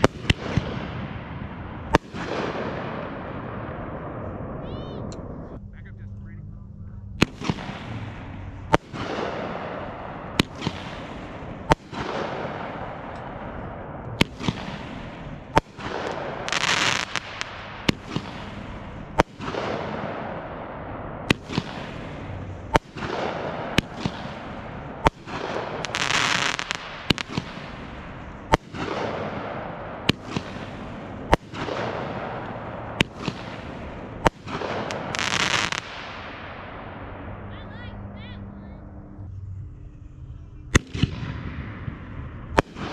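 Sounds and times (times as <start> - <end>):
fireworks bangs with echo: 0.0 - 4.9, 7.2 - 37.9, 40.7 - 42.9
loud bursts of noise: 0.0 - 42.9.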